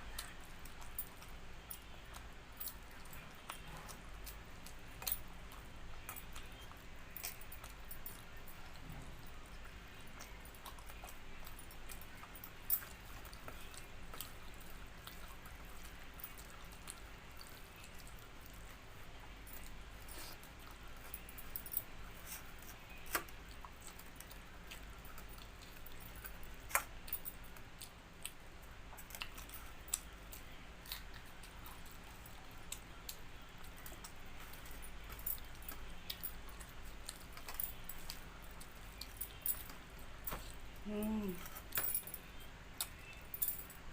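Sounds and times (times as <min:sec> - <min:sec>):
faint chewing: 0:00.0 - 0:43.9
low steady hum: 0:00.0 - 0:43.9.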